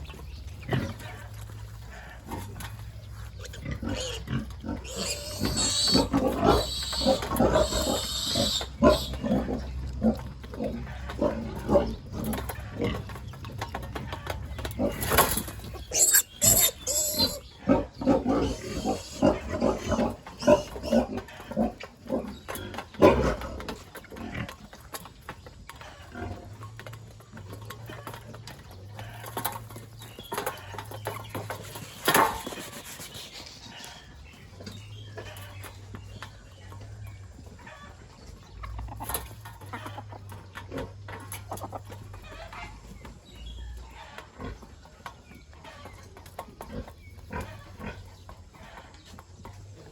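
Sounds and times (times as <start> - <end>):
pigs grunting and squealing: 0.0 - 24.9, 25.8 - 49.9.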